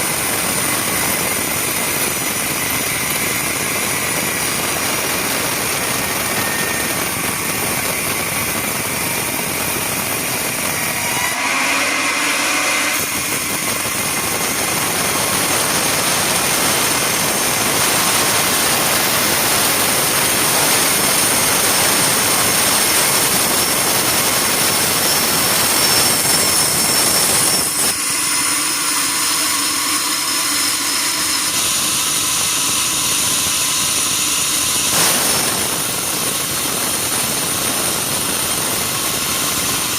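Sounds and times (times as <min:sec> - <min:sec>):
saw cutting timber: 0:00.0 - 0:39.9.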